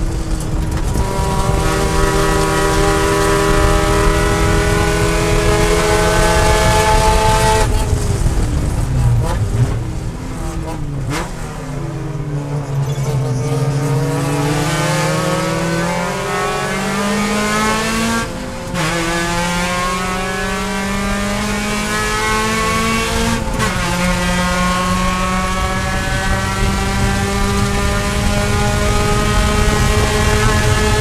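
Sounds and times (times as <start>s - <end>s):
race car engine accelerating: 0.0s - 31.0s.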